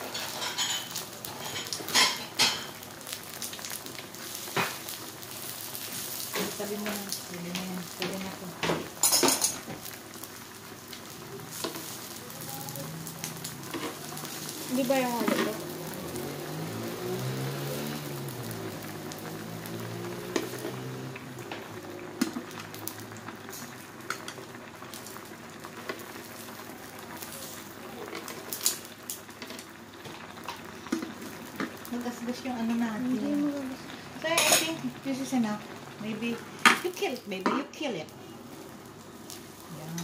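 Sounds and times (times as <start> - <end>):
food sizzling on grill: 0.0 - 40.0.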